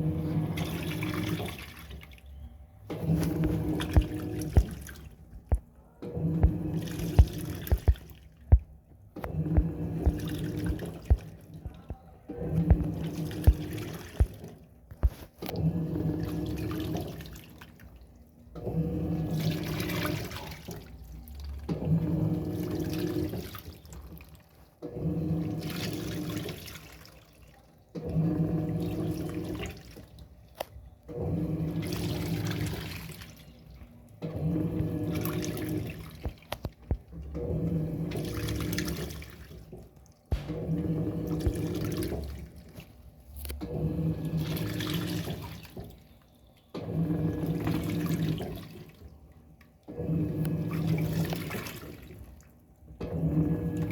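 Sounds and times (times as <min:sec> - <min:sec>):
washing machine motor humming: 0:00.0 - 0:53.9
water and clothes sloshing: 0:00.0 - 0:53.9.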